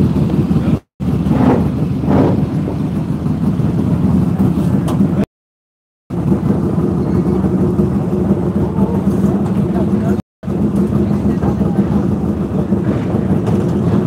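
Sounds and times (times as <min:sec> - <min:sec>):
motorcycle engine idling: 0:00.0 - 0:05.2, 0:06.1 - 0:14.0.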